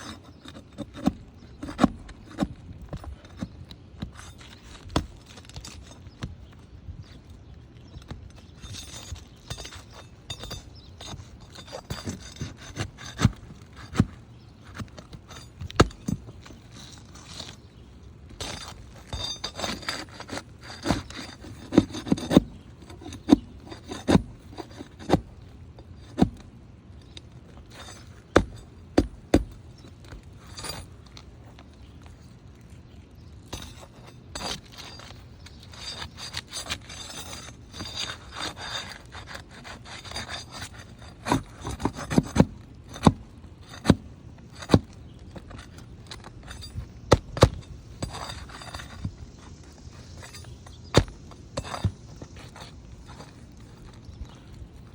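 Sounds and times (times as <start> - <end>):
metal bar scraping shingles: 7.9 - 26.4, 27.0 - 31.1, 32.9 - 54.9.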